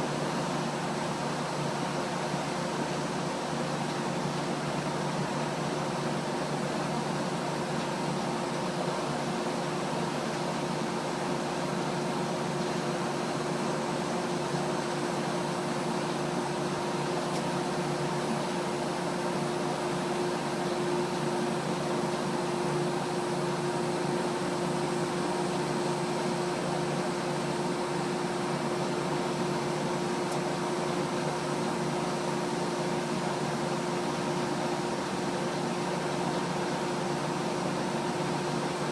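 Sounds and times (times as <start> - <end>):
air conditioner running: 0.0 - 38.9.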